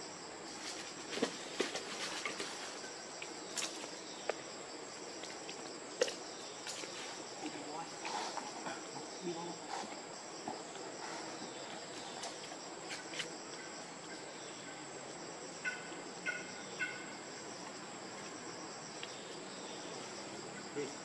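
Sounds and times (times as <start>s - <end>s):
forest insects buzzing: 0.0s - 21.0s.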